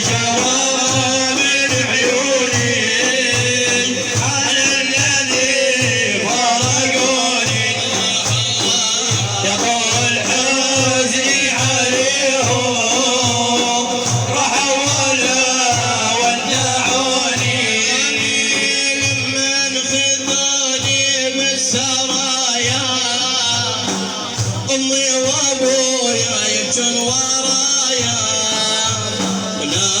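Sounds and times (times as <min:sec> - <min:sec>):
drum beating steady rhythm: 0:00.0 - 0:30.0
men chanting: 0:00.0 - 0:30.0.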